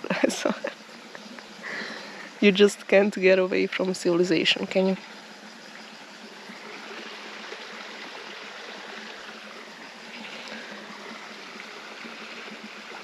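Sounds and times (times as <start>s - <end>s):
stream rushing and trickling: 0.0s - 13.0s.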